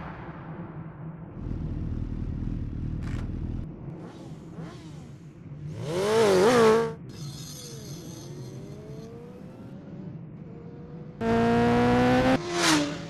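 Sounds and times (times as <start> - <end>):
motorcycle engine revving: 1.4 - 13.0.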